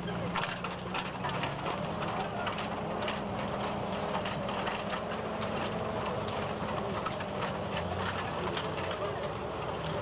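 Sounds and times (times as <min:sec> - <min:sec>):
truck engine running: 0:00.0 - 0:10.0
clicks and clatter: 0:00.3 - 0:10.0.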